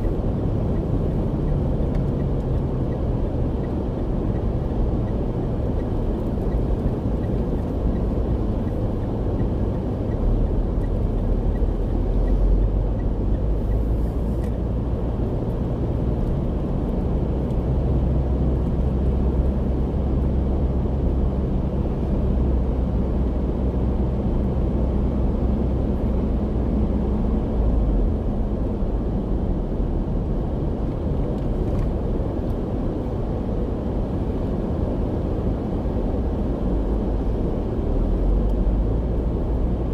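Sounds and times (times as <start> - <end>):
car engine hum: 0.0 - 39.9
tyre road noise: 0.0 - 39.9.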